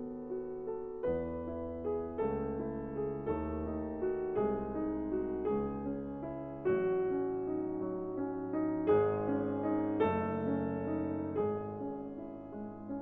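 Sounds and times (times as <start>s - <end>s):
slow gentle piano piece: 0.0s - 13.0s.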